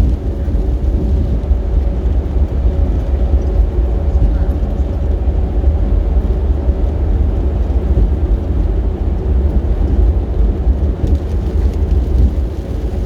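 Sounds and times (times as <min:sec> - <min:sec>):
vehicle road and wind noise: 0:00.0 - 0:13.0.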